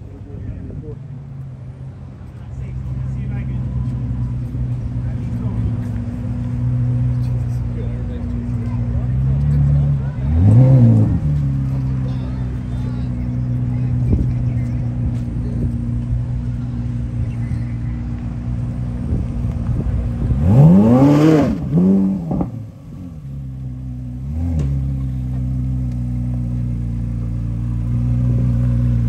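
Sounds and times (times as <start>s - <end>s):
car engine idling: 0.0s - 29.0s
car engine revving: 1.5s - 29.0s.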